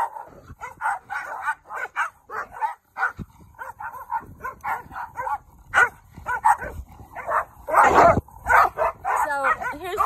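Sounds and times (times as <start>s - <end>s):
dogs barking and yipping: 0.0s - 10.0s.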